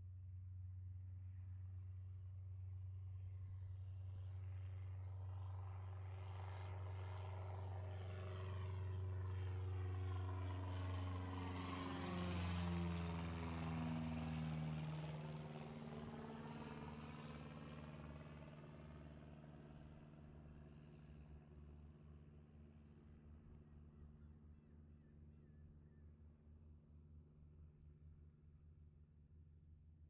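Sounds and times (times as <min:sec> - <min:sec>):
light airplane engine droning: 0:00.0 - 0:30.0.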